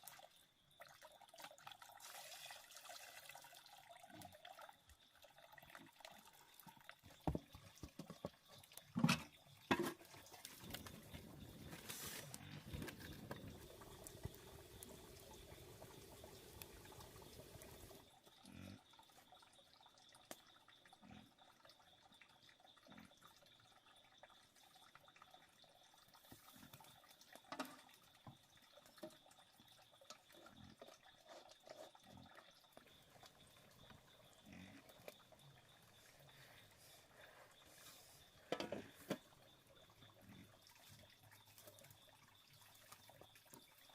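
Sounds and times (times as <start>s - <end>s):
water dripping and splashing: 0.0s - 18.4s, 23.4s - 36.5s, 38.2s - 43.9s.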